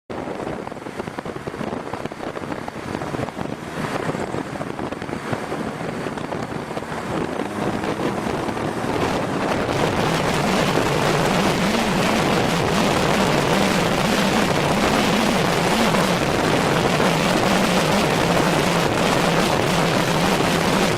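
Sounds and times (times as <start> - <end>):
car engine: 0.1 - 20.9
wind buffeting microphone: 0.1 - 20.9.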